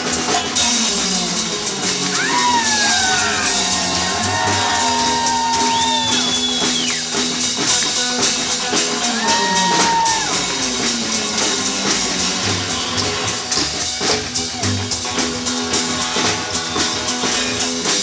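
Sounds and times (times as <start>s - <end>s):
rockabilly band playing live: 0.0s - 18.0s
swooping high guitar notes: 0.0s - 18.0s.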